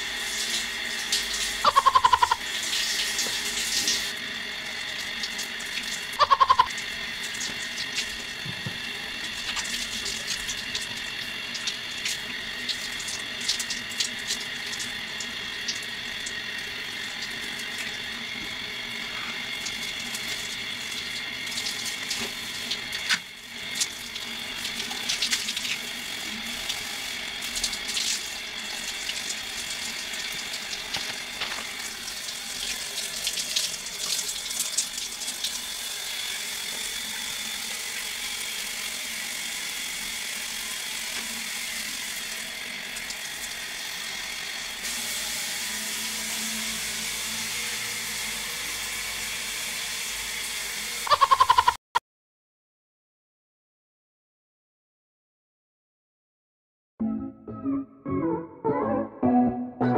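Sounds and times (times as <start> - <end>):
shower water running: 0.0 - 51.5.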